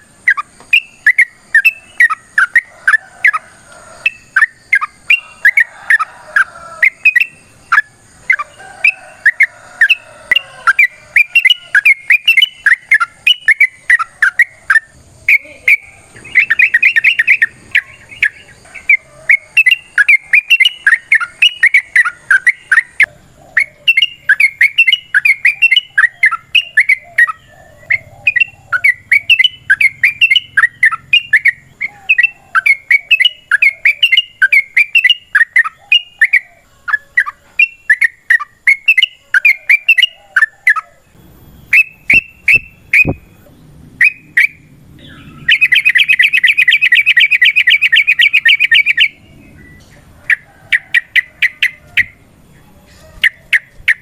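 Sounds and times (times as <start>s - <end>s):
bulbul singing chattering phrases: 0.0s - 54.0s.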